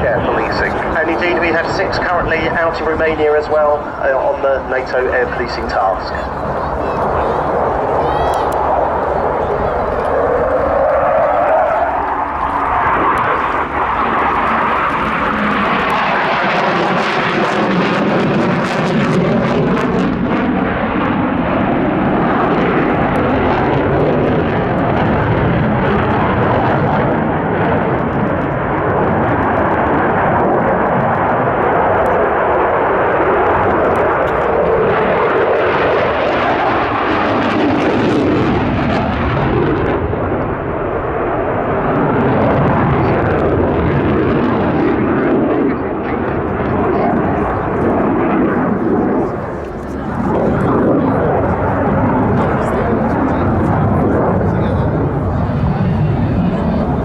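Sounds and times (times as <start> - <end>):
jet fighter flying past: 0.0 - 57.0.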